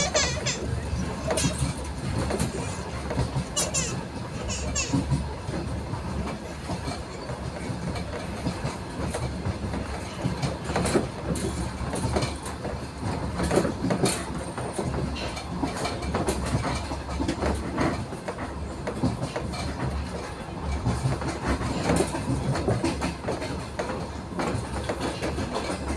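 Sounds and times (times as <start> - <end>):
train rumbling inside carriage: 0.0 - 25.9
wheels clicking on track: 0.0 - 25.9.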